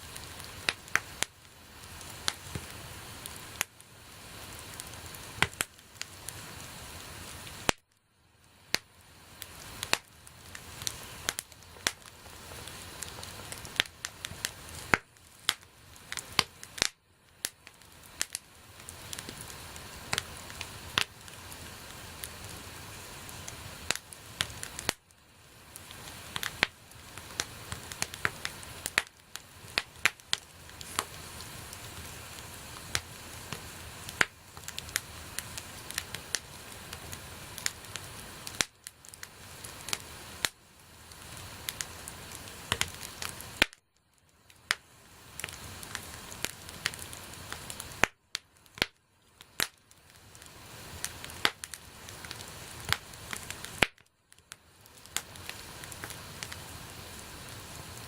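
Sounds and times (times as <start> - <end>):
campfire pops and snaps: 0.0 - 8.0, 8.7 - 58.0
hiss of burning fire: 0.0 - 58.0.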